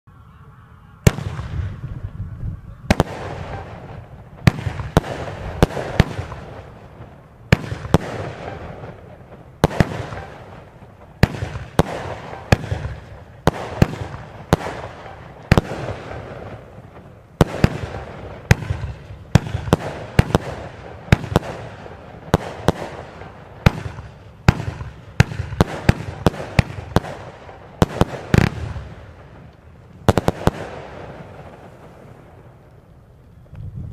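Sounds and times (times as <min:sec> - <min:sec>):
rolling echo: 0:00.1 - 0:33.7
firework bangs: 0:01.0 - 0:33.1.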